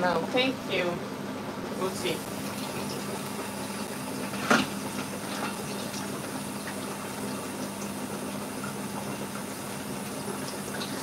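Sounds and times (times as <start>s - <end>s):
pressure cooker hissing and bubbling: 0.0s - 11.0s.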